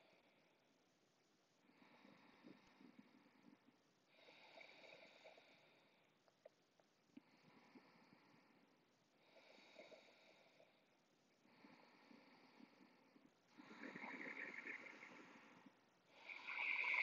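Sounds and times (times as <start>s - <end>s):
faint slow breathing: 0.0s - 0.8s, 1.5s - 17.0s.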